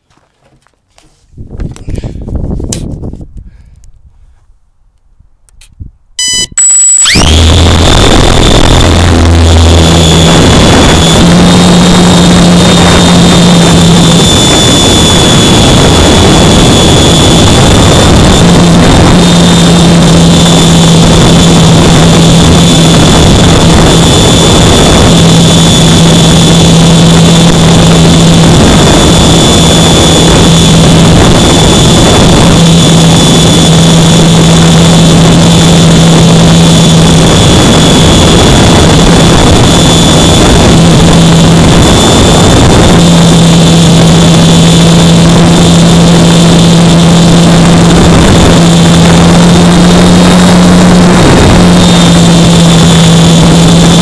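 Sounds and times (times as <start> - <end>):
wind rushing over microphone: 1.2 - 4.4, 5.6 - 6.1, 7.1 - 54.0
steady low hum: 6.0 - 54.0
thin high whine: 6.2 - 54.0.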